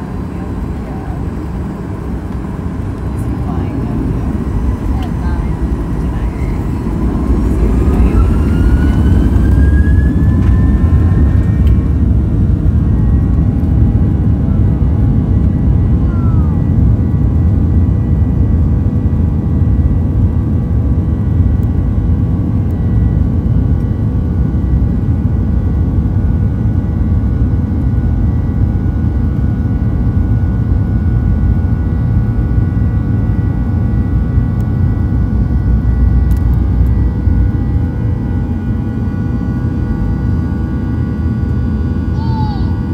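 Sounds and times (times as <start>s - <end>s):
jet engine rumble: 0.0s - 42.9s
jet engine whine: 0.0s - 42.9s.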